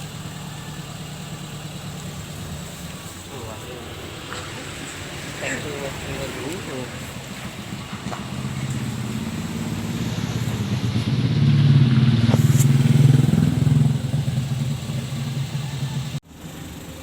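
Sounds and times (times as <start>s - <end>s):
exhaust turbo whistle: 0.0s - 16.2s
vehicle engine revving: 0.0s - 17.0s.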